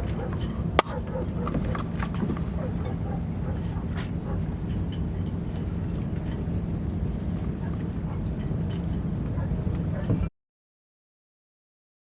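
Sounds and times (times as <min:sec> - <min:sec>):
vehicle engine rumbling: 0:00.0 - 0:10.3.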